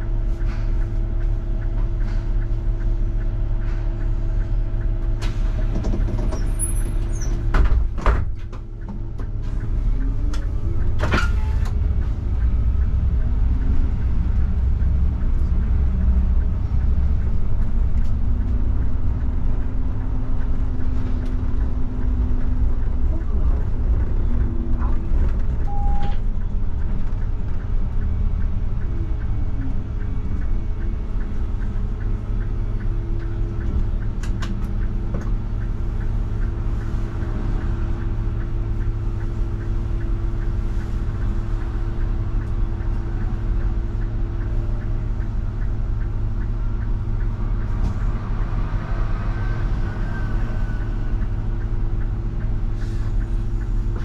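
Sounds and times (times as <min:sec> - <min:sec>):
bus engine rumbling: 0:00.0 - 0:54.0.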